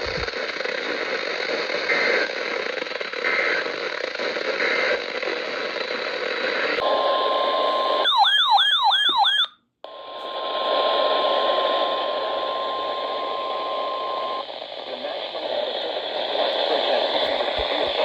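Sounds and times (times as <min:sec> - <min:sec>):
radio static hiss: 0:00.0 - 0:08.1, 0:09.9 - 0:18.0.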